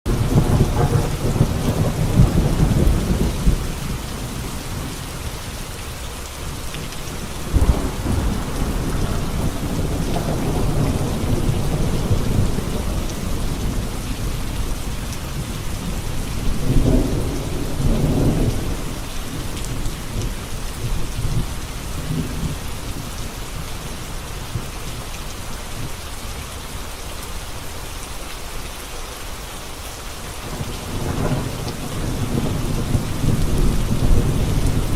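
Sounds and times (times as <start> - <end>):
heavy rain on a road: 0.1 - 34.9.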